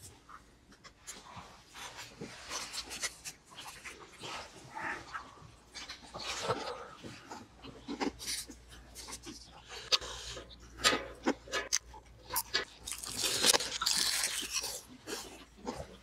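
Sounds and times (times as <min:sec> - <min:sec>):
chewing and crunching food: 0:00.0 - 0:16.0.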